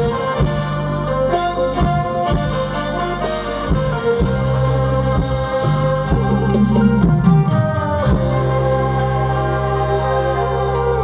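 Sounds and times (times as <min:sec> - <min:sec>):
wavering low melody: 0:00.0 - 0:11.0.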